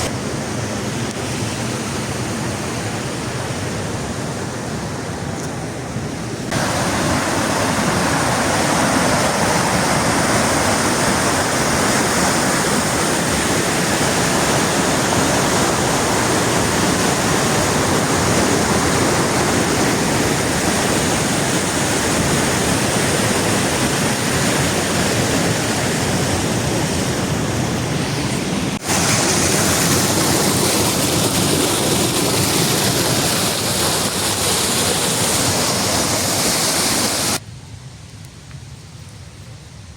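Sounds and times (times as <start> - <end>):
rush of falling water: 0.0 - 37.4.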